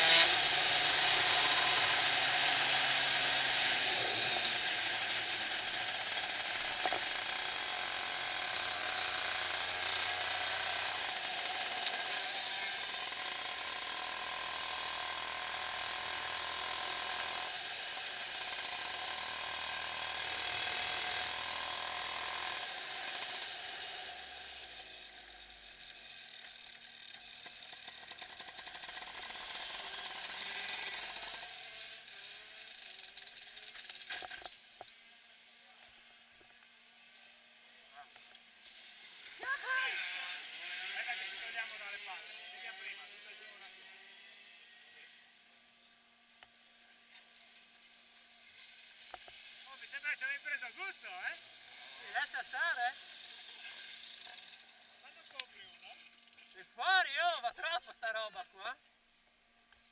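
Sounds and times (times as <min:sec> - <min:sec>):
kart engine buzzy rasp: 0:00.0 - 0:35.2, 0:35.9 - 0:56.6.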